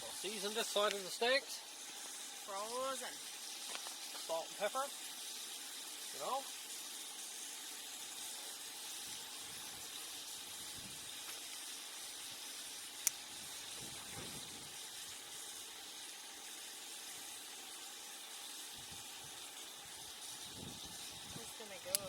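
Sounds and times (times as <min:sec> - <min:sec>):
steaks sizzling in a pan: 0:00.0 - 0:22.0.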